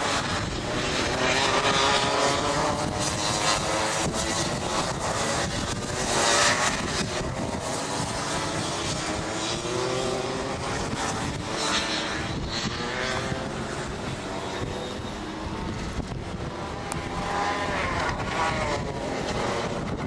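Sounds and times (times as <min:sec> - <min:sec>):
kart engines racing past: 0:00.0 - 0:20.0.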